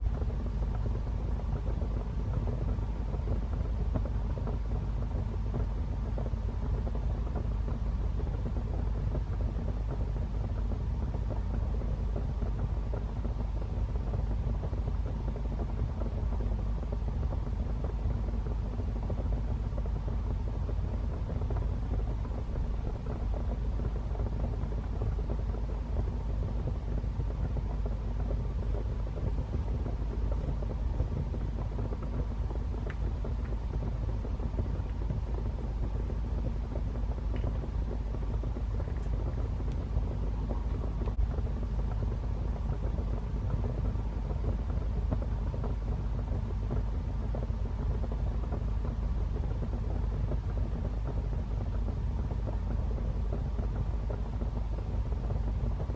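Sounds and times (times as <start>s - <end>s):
low rumble of flames: 0.0s - 55.9s
fire crackling and popping: 6.0s - 55.9s.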